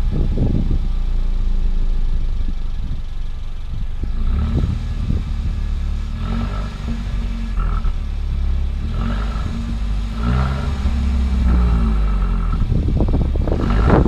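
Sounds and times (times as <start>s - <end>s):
car engine idling: 0.0s - 14.0s
engine throttle blips: 0.0s - 14.0s.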